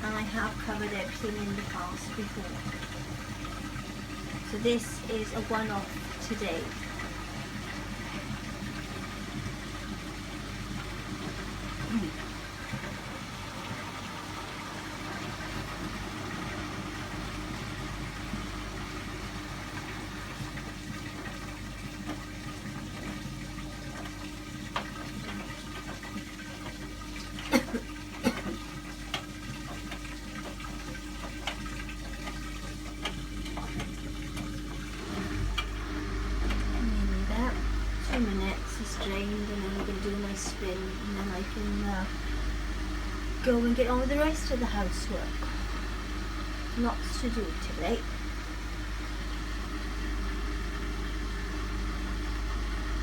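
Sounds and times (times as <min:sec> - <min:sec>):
washing machine pump hum: 0:00.0 - 0:53.0
water rushing and gurgling: 0:00.0 - 0:53.0.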